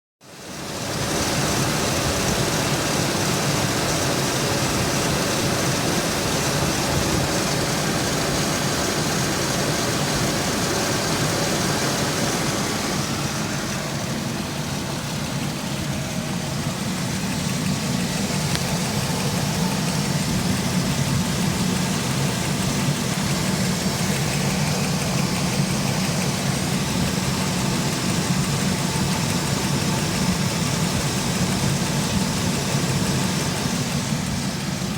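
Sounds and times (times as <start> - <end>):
van engine idling: 0.3 - 34.9.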